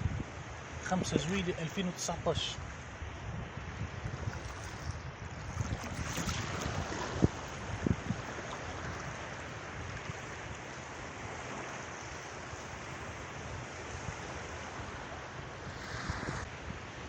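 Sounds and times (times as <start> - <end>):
sea waves washing: 0.0 - 17.0.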